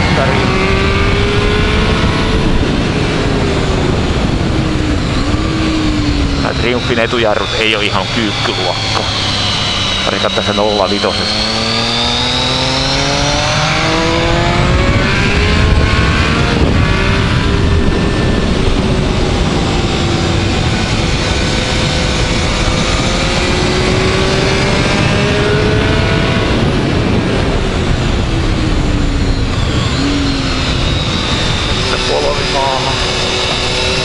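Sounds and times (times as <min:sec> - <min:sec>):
motorcycle engine accelerating: 0:00.0 - 0:34.0
wind rush: 0:00.0 - 0:34.0.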